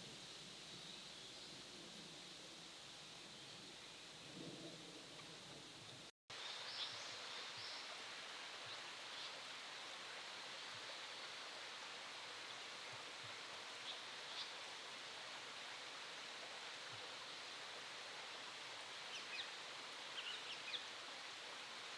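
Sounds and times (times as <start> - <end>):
forest hiss: 0.0 - 21.9.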